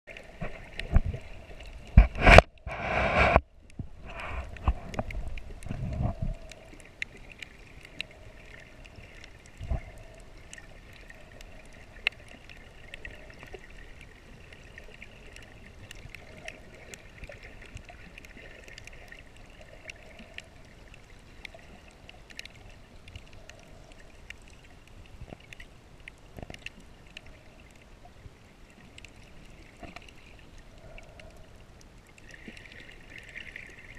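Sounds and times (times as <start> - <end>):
faint steady hiss: 0.1 - 33.9.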